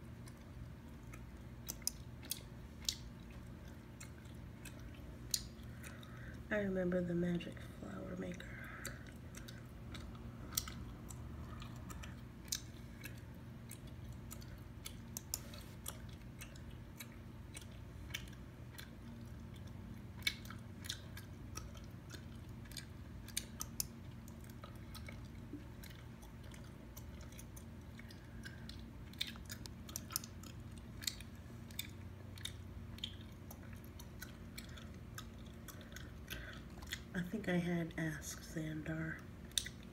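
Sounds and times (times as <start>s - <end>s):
gum chewing smacks: 0.0s - 6.5s, 7.8s - 37.2s, 39.1s - 39.9s
steady low hum: 0.0s - 39.9s.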